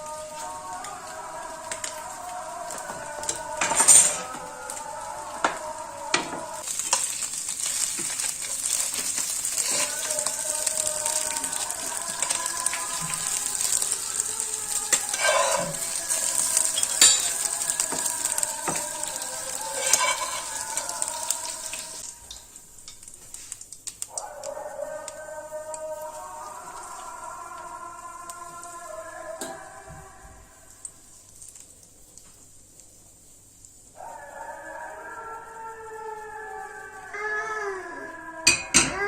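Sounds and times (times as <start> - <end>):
food sizzling in a pan: 0.0 - 39.0.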